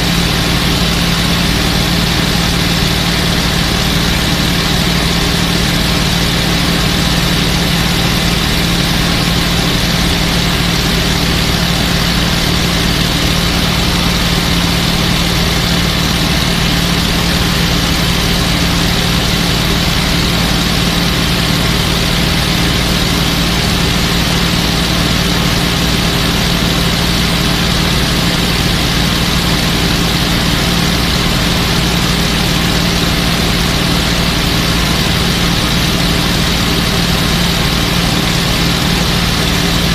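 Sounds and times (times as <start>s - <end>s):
airflow rushing: 0.0s - 39.9s
piston aircraft engine droning: 0.0s - 39.9s.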